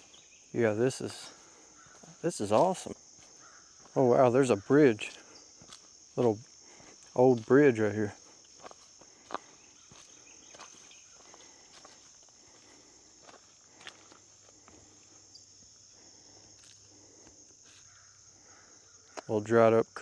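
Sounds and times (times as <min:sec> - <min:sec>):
footsteps on trail: 0:00.0 - 0:18.0
high-pitched insect chorus: 0:00.0 - 0:20.0.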